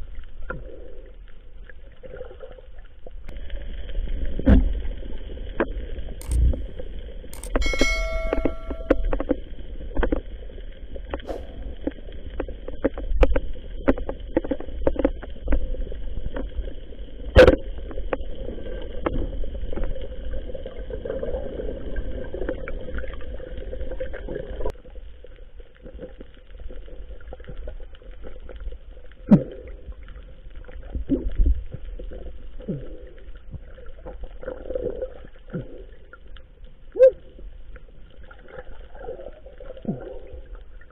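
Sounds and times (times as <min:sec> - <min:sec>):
underwater low rumble: 0:00.0 - 0:40.9.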